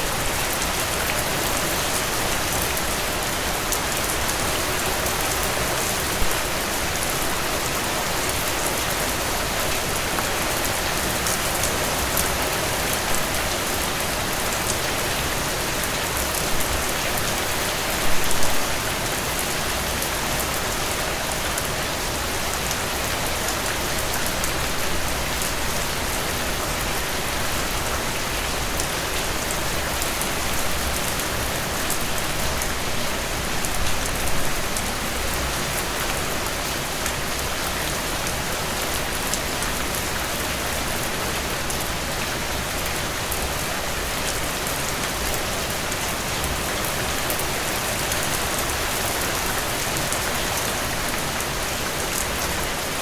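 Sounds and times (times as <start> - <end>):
heavy rain pouring: 0.0 - 53.0
loud rain splatters: 0.0 - 53.0.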